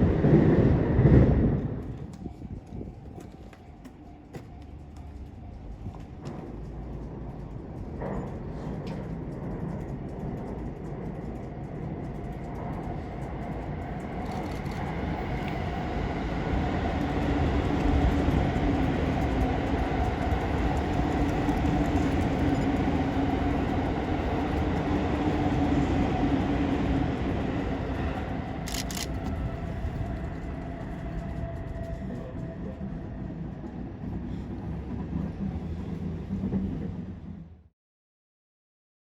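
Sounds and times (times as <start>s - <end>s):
train passing: 0.0s - 37.7s.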